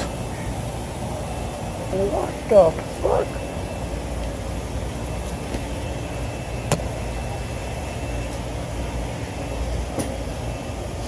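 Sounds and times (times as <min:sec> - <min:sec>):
rooftop air conditioning unit drone: 0:00.0 - 0:11.0.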